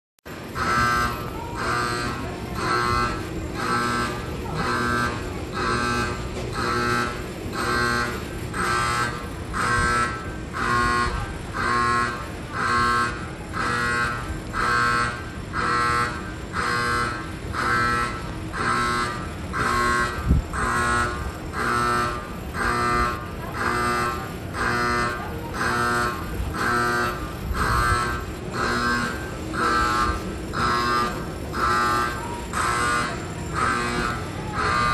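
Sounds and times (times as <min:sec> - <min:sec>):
emergency alarm buzzing: 0:00.3 - 0:34.9.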